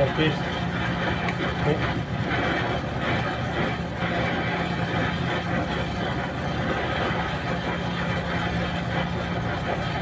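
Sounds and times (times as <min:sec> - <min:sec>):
hiss: 0:00.0 - 0:10.0
mechanical hum: 0:00.0 - 0:10.0.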